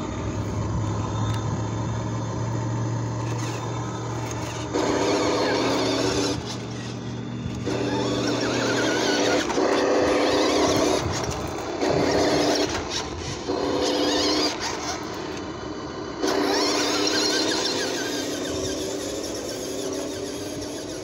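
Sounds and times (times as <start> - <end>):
toy truck electric motor whining: 0.0 - 21.0.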